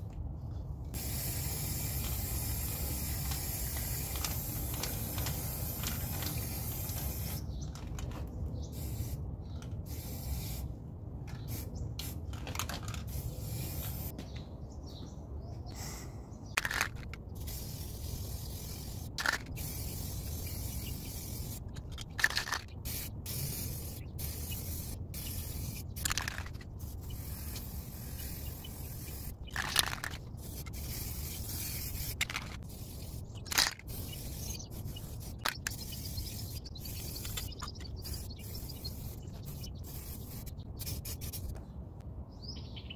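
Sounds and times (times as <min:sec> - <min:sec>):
spray paint can hissing: 0:00.9 - 0:07.5, 0:08.7 - 0:10.7, 0:11.3 - 0:14.1, 0:16.6 - 0:41.6.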